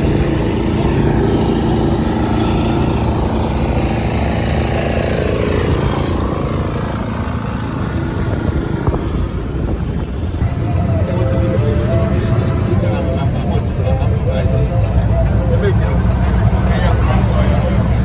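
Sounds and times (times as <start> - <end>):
traffic noise: 0.0 - 18.0
vehicle engine running: 0.0 - 18.0.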